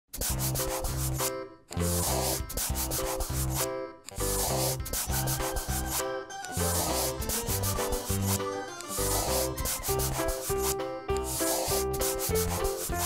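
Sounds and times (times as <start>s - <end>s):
pencil scratching on paper: 0.1s - 13.0s
light background music: 0.2s - 13.0s.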